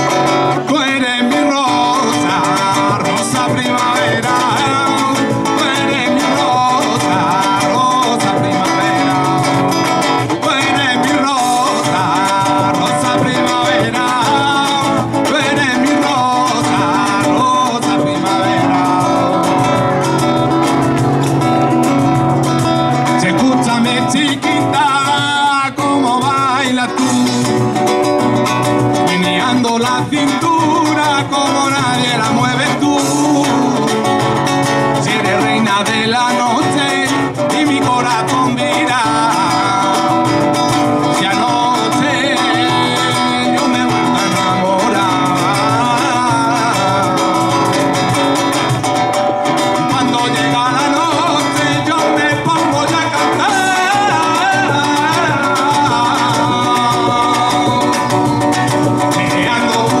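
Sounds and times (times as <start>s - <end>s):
flamenco guitar: 0.0s - 60.0s
man singing: 0.0s - 60.0s.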